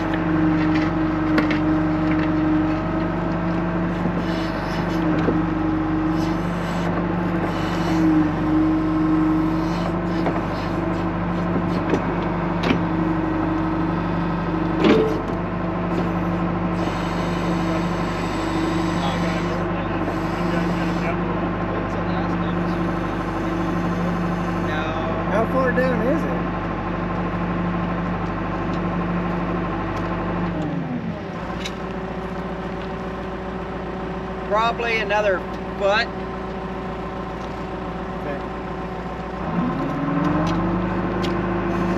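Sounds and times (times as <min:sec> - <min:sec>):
backhoe engine running: 0:00.0 - 0:41.9.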